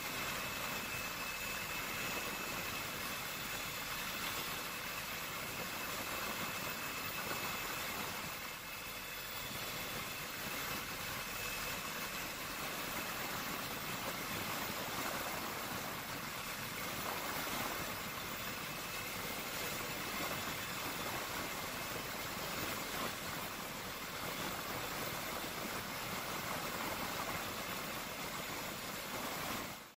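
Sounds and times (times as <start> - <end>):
helicopter cabin engine and rotor drone: 0.0 - 30.0.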